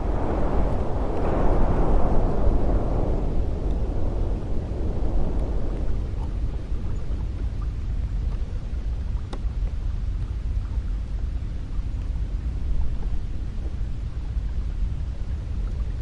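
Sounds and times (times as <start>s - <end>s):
wind blowing with low rumble: 0.0s - 16.0s.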